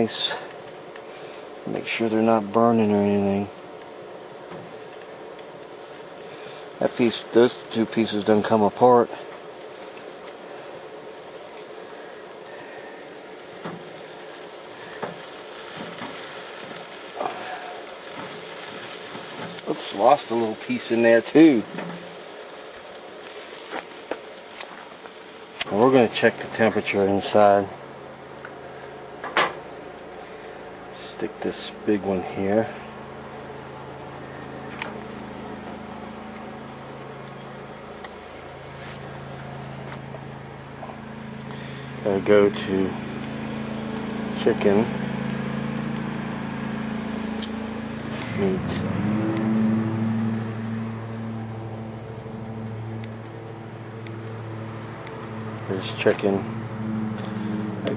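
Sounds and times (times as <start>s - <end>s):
chicken sizzling on grill: 0.0s - 57.9s
lawn mower engine running: 0.0s - 57.9s.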